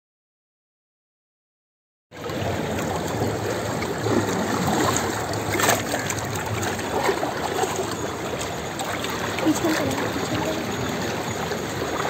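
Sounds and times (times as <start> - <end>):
shallow water rushing around feet: 2.2 - 12.0
water splash: 2.3 - 12.0.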